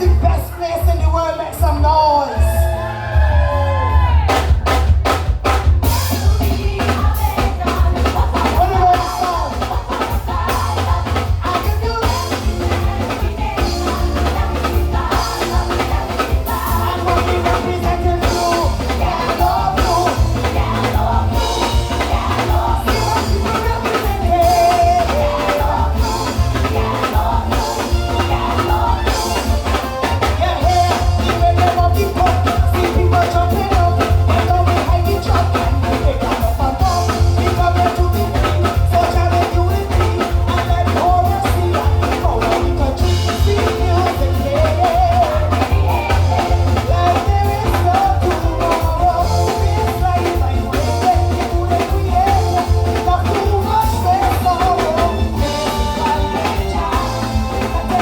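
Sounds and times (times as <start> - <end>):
driving drum beat with heavy bass: 0.0 - 58.0
person singing: 5.8 - 58.0.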